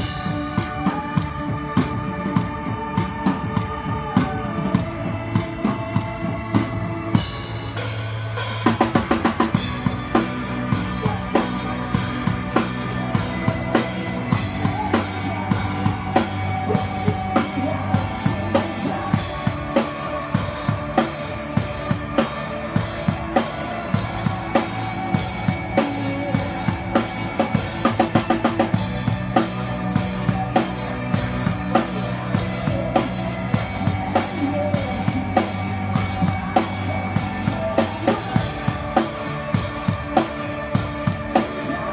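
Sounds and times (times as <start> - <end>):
bass guitar notes: 0.0 - 41.9
drum kit beat: 0.0 - 41.9.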